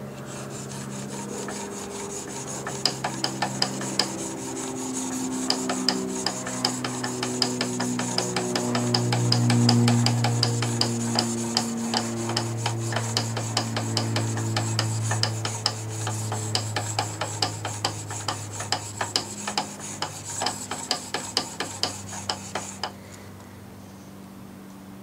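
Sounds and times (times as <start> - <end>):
blade scraping on sharpening plate: 0.2 - 23.0.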